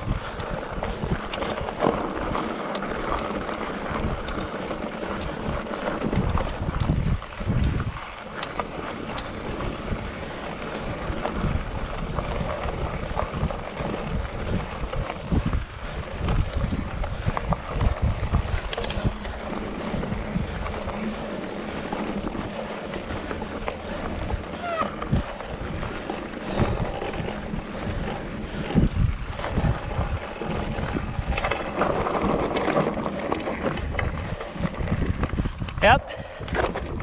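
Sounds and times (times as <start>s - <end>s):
wind on microphone: 0.0s - 2.4s, 3.1s - 8.0s, 8.8s - 37.0s
bike rattling: 0.0s - 37.0s
tyres crunching on gravel: 0.0s - 37.0s.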